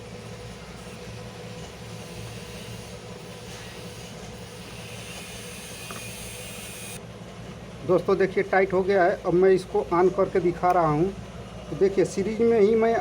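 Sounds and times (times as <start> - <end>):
fan motor hum: 0.0 - 13.0.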